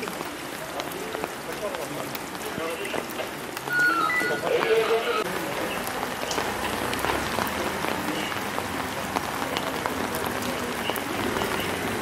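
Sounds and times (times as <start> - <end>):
rain pattering on pavement: 0.0 - 12.0.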